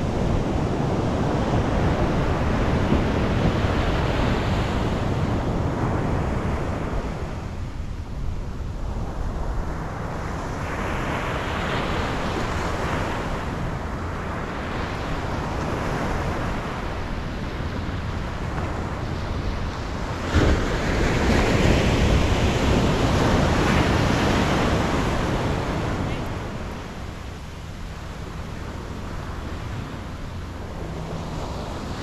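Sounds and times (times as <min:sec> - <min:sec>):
ocean surf breaking: 0:00.0 - 0:32.0
wind buffeting microphone: 0:00.0 - 0:32.0.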